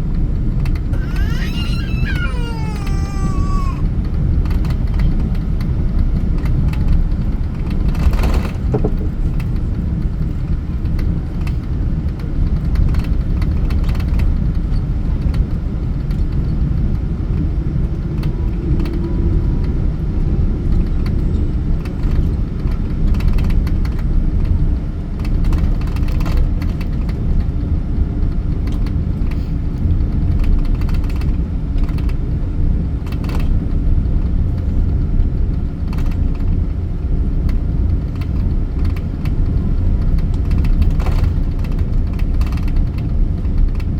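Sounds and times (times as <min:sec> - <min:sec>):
airliner engine and airflow rumble: 0:00.0 - 0:43.9.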